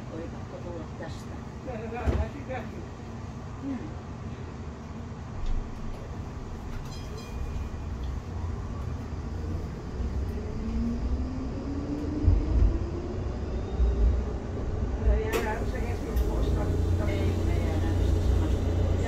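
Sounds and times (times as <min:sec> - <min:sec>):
wheel and rail rumble: 0:00.0 - 0:19.0.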